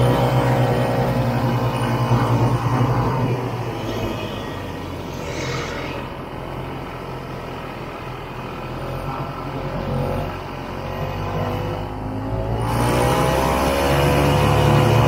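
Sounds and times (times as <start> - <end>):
snowmobile two-stroke engine running: 0.0 - 5.0, 6.2 - 15.0.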